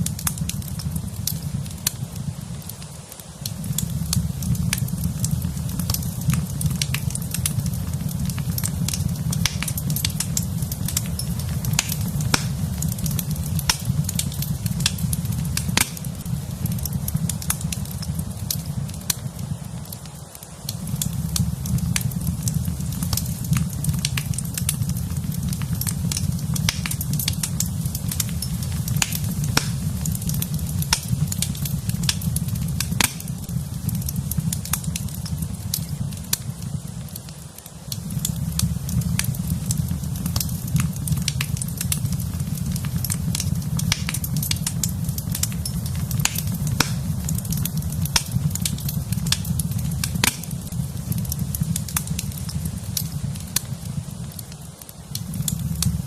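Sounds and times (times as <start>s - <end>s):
burning wood crackling and popping: 0.0s - 56.0s
fire rumbling in fireplace: 0.0s - 56.0s.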